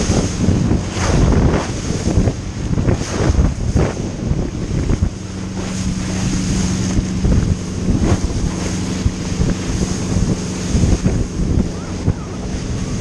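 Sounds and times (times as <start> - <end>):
rushing water and spray: 0.0 - 13.0
wind buffeting microphone: 0.0 - 13.0.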